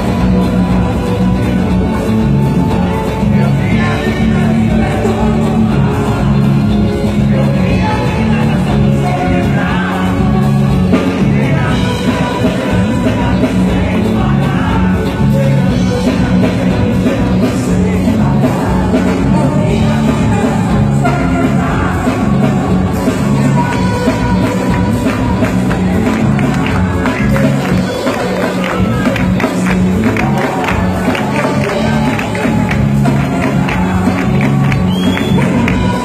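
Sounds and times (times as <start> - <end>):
live band playing pop song: 0.0 - 36.0
repeating bass line: 0.0 - 36.0.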